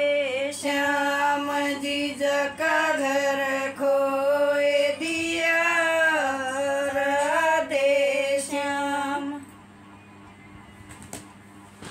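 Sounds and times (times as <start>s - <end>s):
woman singing unaccompanied: 0.0s - 9.6s.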